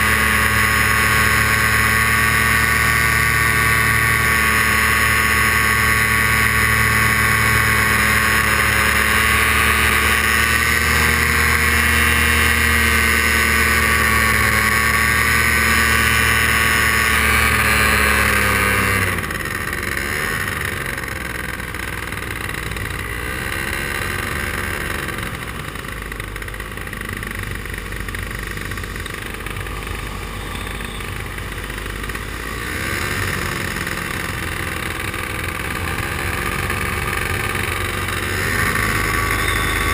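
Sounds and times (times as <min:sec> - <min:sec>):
paramotor engine running: 0:00.0 - 0:39.9.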